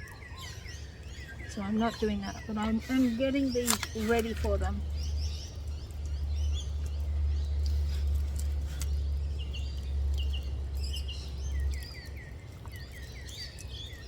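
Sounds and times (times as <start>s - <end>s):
low steady rumble: 0.0s - 14.0s
small birds chirping: 0.0s - 14.0s.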